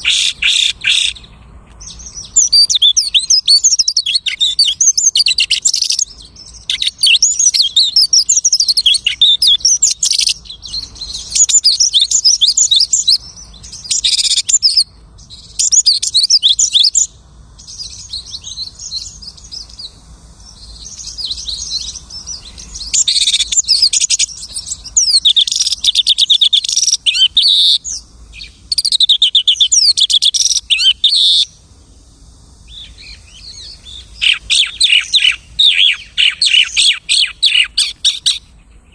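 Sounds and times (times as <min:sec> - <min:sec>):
lark singing: 0:00.0 - 0:31.6, 0:32.7 - 0:38.9.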